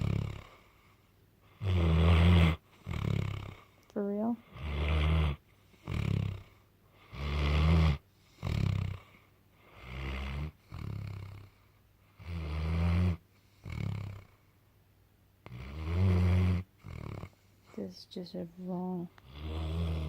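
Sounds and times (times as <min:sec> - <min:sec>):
dog snoring: 0:00.0 - 0:14.5, 0:15.4 - 0:17.8, 0:19.1 - 0:20.0.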